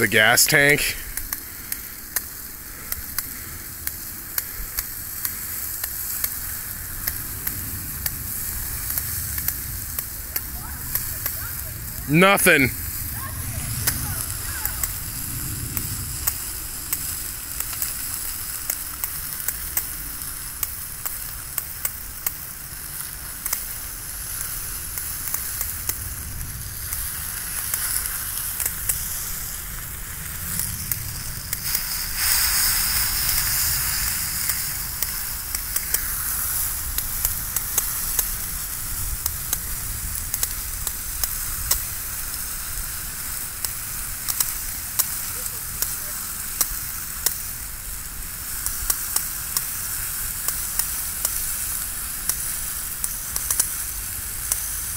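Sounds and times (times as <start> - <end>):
burning lawnmower crackling and popping: 0.0 - 54.9
water hissing on hot metal: 0.0 - 54.9.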